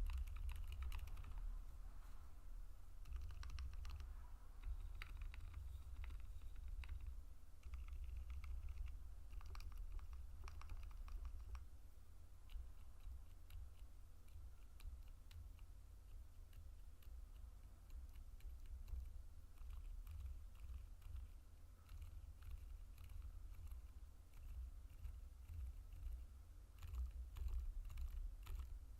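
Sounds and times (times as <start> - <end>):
soft keyboard keystrokes: 0.0 - 1.5, 3.0 - 11.7, 12.4 - 28.8
steady low hum: 0.0 - 28.9.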